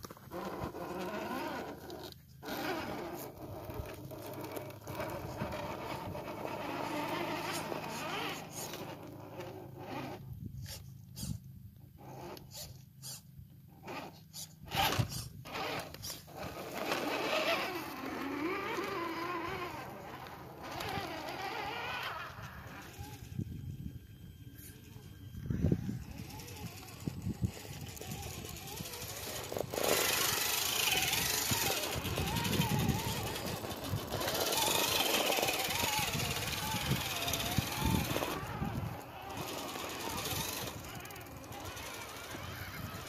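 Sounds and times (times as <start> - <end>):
electric motor whining: 0.1 - 11.4, 13.7 - 43.0.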